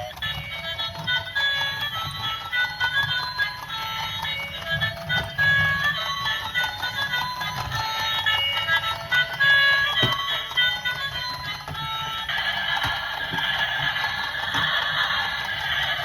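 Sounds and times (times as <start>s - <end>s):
bright bouncy music: 0.0s - 16.0s.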